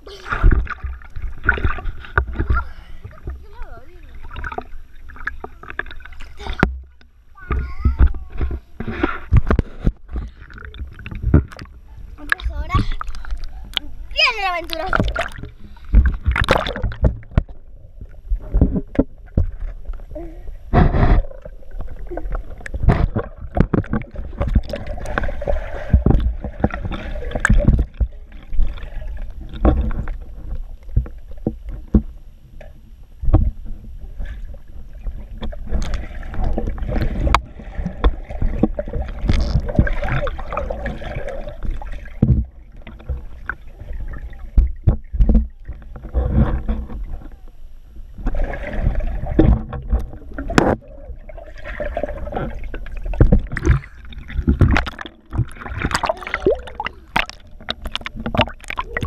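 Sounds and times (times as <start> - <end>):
underwater churning and bubbling: 0.0 - 59.0
underwater knocks and thumps: 0.0 - 59.0.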